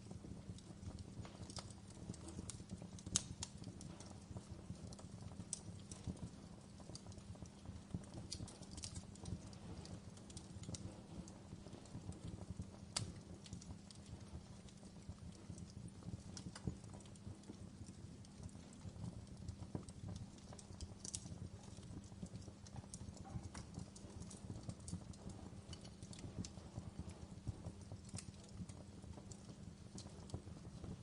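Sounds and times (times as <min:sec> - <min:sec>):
low rumble of flames: 0:00.0 - 0:31.0
wood fire crackling: 0:00.0 - 0:31.0.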